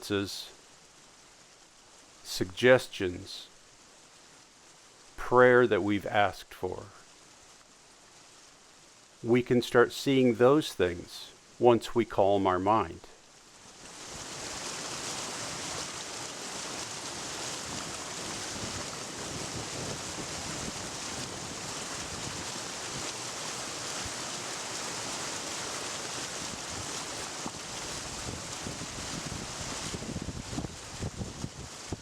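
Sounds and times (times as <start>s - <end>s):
outdoor rushing hiss: 0.0s - 30.3s.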